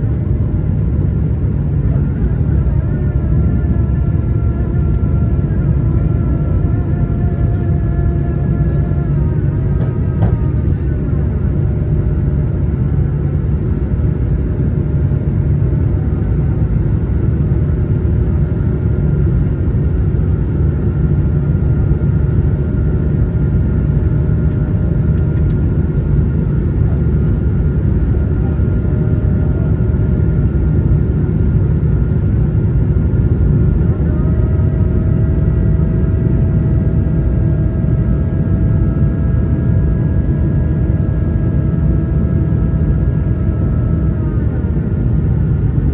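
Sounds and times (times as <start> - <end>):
airplane cabin rumble: 0.0 - 45.9
jet engine whine: 0.0 - 45.9.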